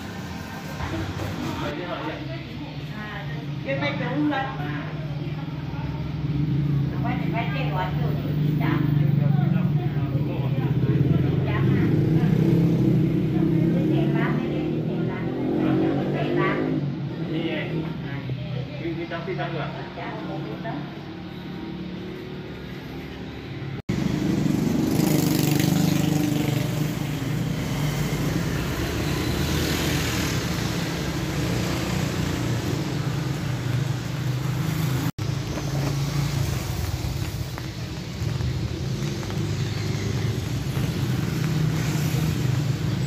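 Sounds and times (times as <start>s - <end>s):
motor vehicle noise: 0.0s - 43.0s.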